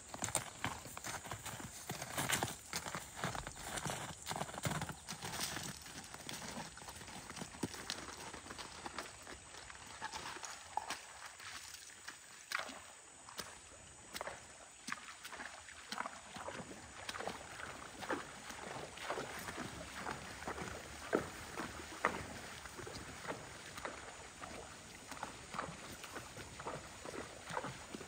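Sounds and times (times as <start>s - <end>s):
horse hooves splashing in water: 0.0s - 28.0s.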